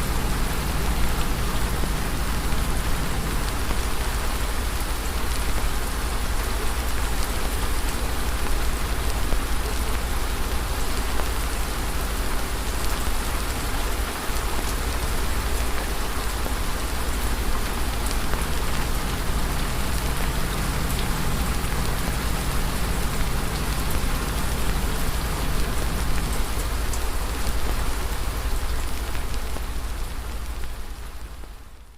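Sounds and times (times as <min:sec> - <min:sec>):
rain hiss: 0:00.0 - 0:31.9.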